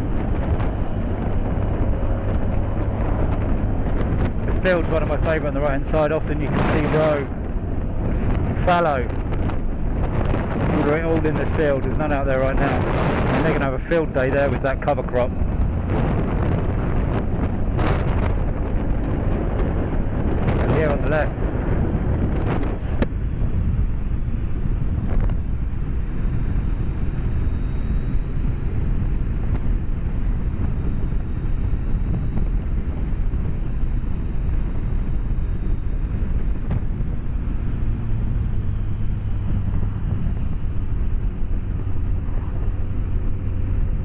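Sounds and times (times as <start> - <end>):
motorcycle engine rumble: 0.0 - 44.0
wind noise in helmet: 0.0 - 44.0.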